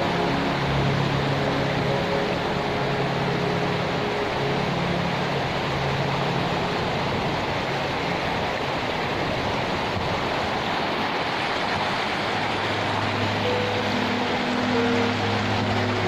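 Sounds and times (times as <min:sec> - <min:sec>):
flowing river water: 0:00.0 - 0:16.0.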